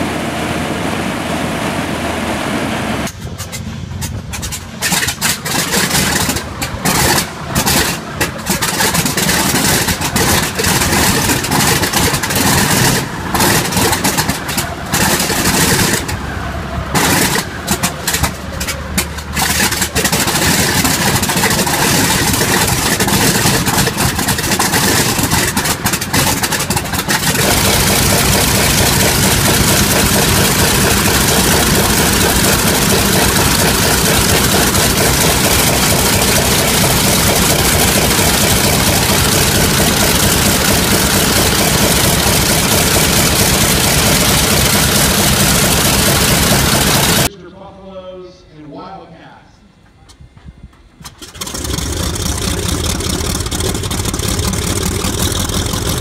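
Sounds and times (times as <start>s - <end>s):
radial aircraft engine starting up: 0.0s - 47.4s, 50.1s - 56.0s.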